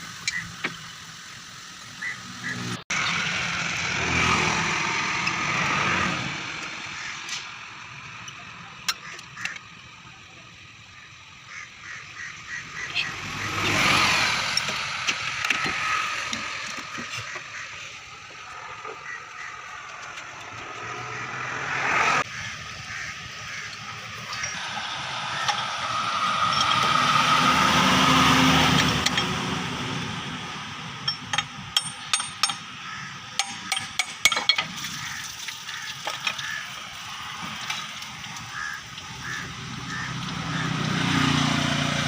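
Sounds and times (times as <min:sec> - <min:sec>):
motor vehicle noise: 0:00.0 - 0:42.0.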